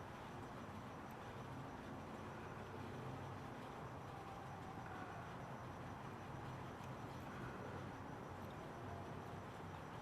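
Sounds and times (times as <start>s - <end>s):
faint background hum and hiss: 0.0s - 10.0s.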